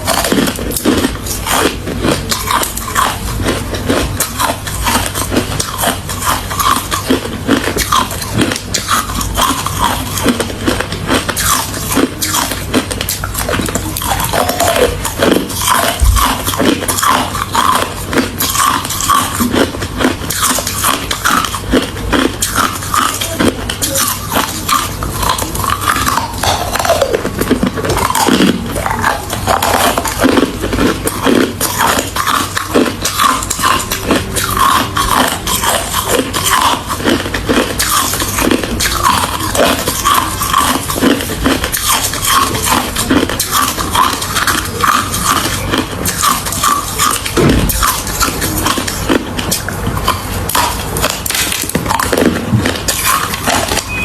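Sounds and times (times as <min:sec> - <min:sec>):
person chewing ice: 0:00.0 - 0:54.0.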